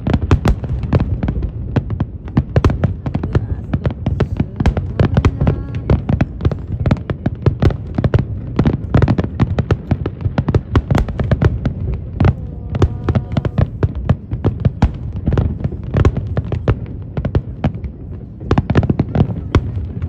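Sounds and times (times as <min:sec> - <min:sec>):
deep rumble: 0:00.0 - 0:17.2
fireworks cracks and bangs: 0:00.0 - 0:20.0.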